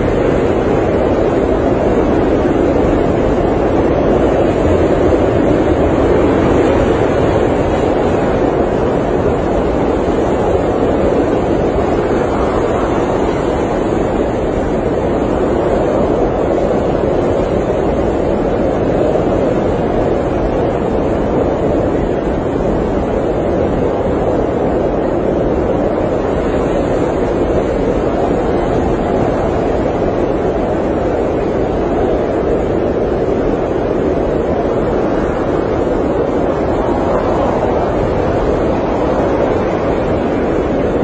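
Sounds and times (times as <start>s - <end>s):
blizzard wind blowing: 0.0s - 41.0s.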